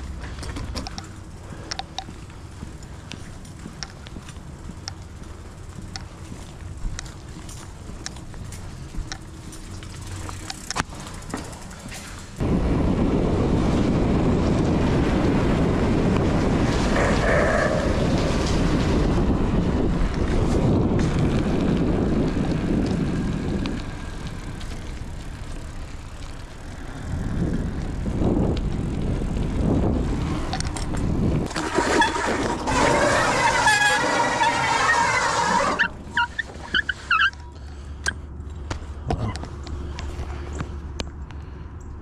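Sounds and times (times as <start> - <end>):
wind buffeting microphone: 0.0 - 36.7.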